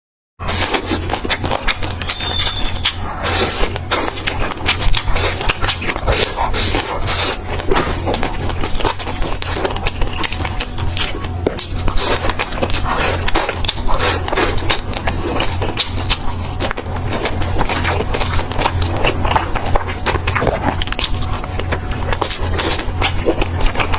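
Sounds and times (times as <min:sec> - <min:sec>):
crunchy chewing: 0:00.4 - 0:23.9
low steady hum: 0:00.4 - 0:23.9.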